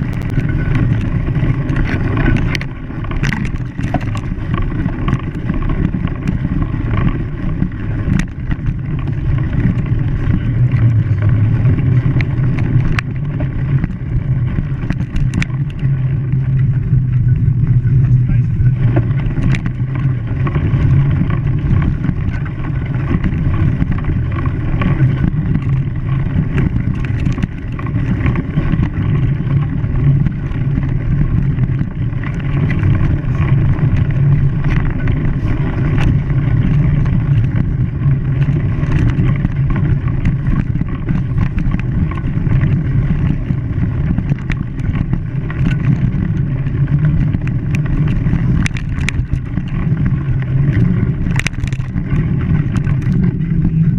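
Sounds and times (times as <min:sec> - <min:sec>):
low engine rumble: 0:00.0 - 0:53.9.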